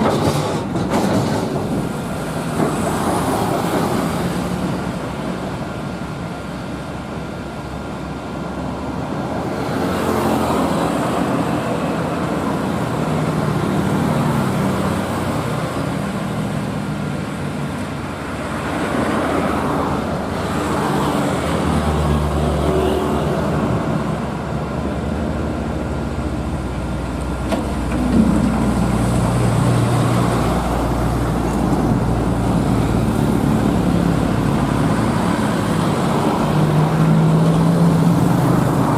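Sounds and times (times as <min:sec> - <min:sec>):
diesel truck engines labouring: 0:00.0 - 0:38.9
road traffic noise: 0:00.0 - 0:38.9.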